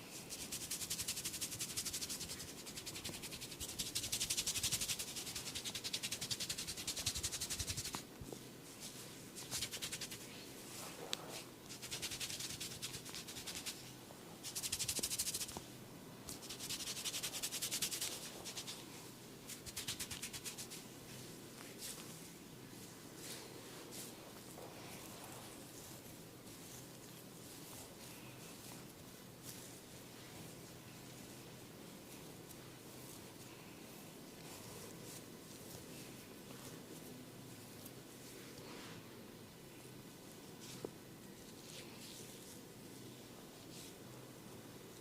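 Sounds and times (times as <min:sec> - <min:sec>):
rubbing and scratching on hair: 0:00.0 - 0:15.6, 0:16.3 - 0:39.1, 0:40.3 - 0:44.2.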